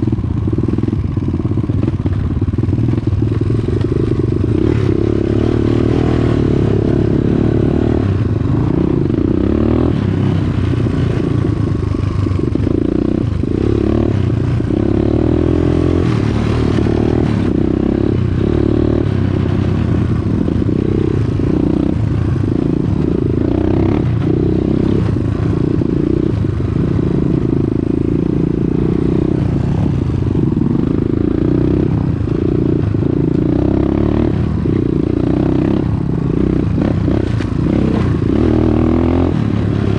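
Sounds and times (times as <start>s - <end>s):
dirt bike engine revving: 2.7s - 39.9s.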